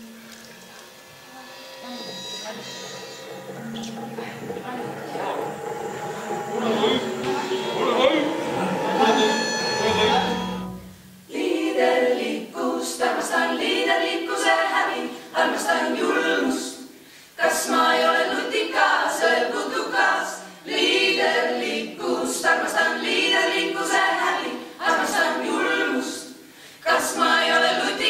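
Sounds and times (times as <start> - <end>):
group singing unaccompanied: 1.8 - 28.0.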